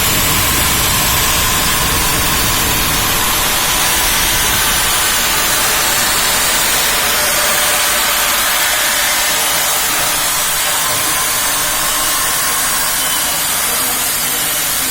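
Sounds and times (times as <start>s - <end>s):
milling machine hissing noise: 0.0s - 14.9s.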